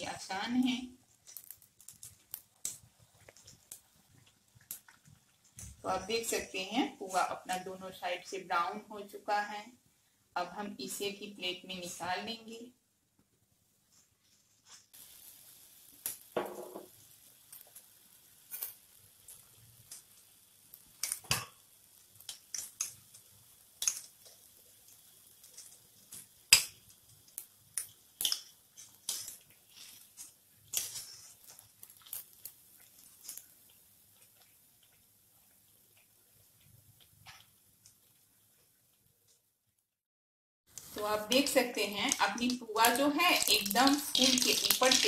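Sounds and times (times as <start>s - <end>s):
hot oil sizzling: 0.0s - 9.6s, 13.9s - 39.5s, 40.7s - 45.0s.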